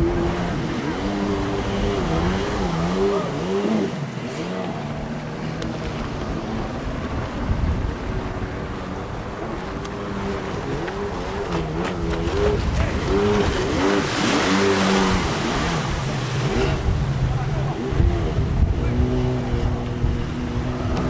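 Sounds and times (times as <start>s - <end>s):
powerboat engine at speed: 0.0s - 21.0s
rush of wind and water: 0.0s - 21.0s.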